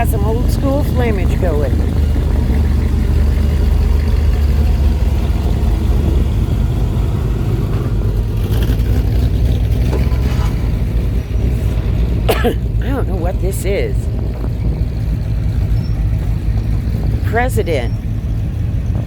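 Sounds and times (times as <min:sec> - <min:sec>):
car engine exhaust rumble: 0:00.0 - 0:19.0.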